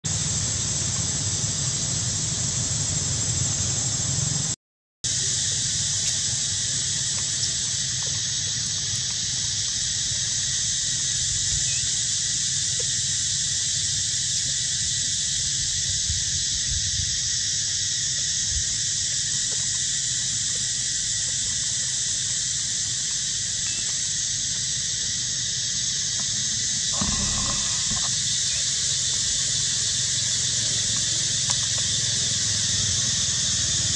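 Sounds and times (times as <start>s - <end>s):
insect chorus drone: 0.1s - 33.9s.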